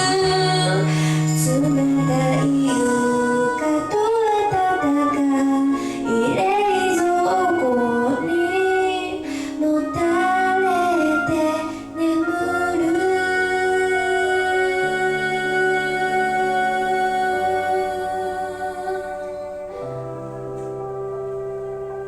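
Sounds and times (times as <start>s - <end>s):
woman singing: 0.0s - 19.9s
instrumental accompaniment: 0.0s - 22.0s.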